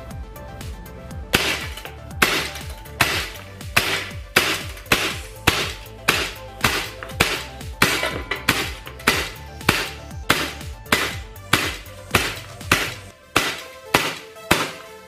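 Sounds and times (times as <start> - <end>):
background music: 0.0 - 15.0
airsoft gun shots cracking: 1.3 - 15.0.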